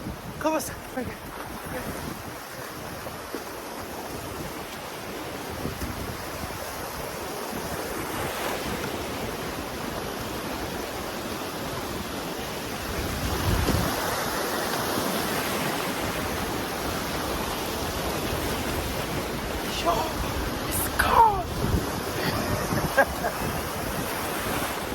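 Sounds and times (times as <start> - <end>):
sea waves washing in: 0.0 - 24.9
wind buffeting microphone: 0.0 - 24.9.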